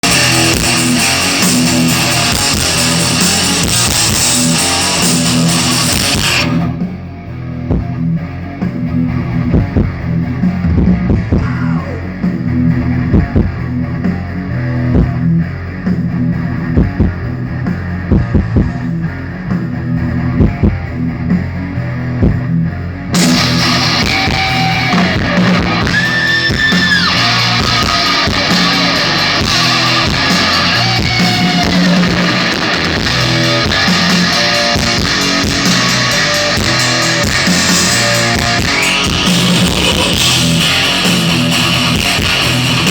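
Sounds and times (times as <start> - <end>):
thrash metal band playing live: 0.0 - 42.9.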